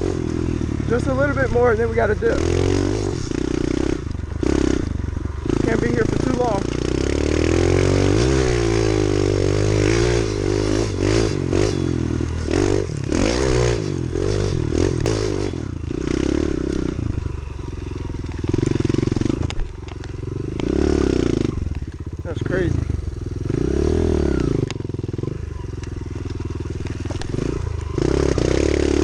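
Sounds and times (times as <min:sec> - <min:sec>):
small motorbike engine revving: 0:00.0 - 0:29.0.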